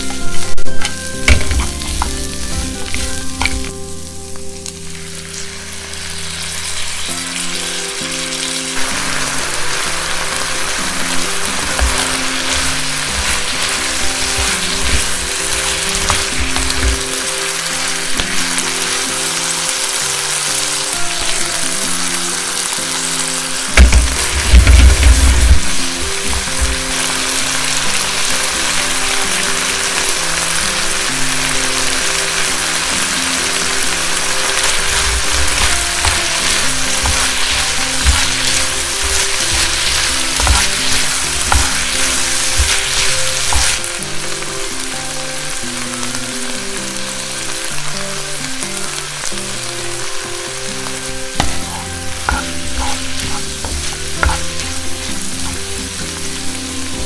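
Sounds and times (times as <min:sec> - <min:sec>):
background music: 0:00.0 - 0:57.0
food sizzling in a frying pan: 0:00.0 - 0:57.0.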